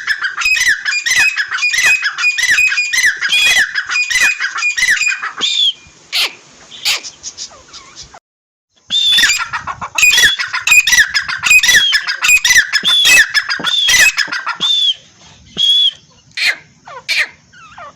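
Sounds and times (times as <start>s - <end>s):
francolins calling harshly: 0.0s - 8.2s, 8.8s - 17.9s.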